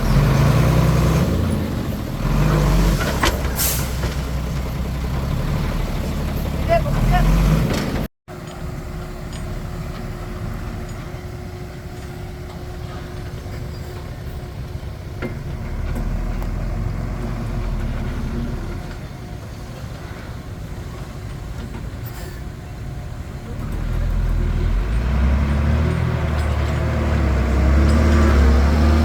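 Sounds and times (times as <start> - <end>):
bulldozer diesel engine rumble: 0.0 - 29.0.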